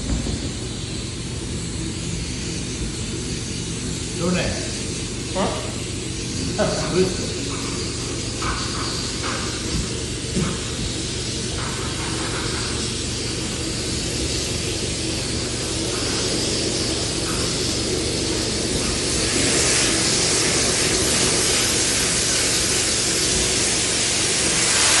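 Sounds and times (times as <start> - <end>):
machine hum: 0.0 - 25.0
rushing air hiss: 0.0 - 25.0.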